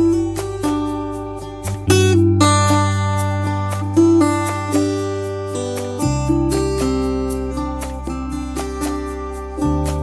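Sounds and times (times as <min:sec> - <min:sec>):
low bass notes: 0:00.0 - 0:10.0
plucked-string melody: 0:00.0 - 0:10.0.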